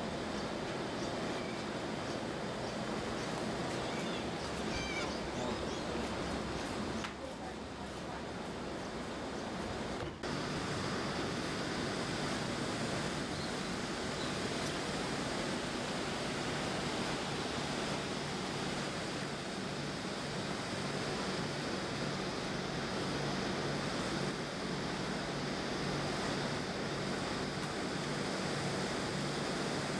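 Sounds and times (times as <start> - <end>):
air conditioner running: 0.0 - 29.9.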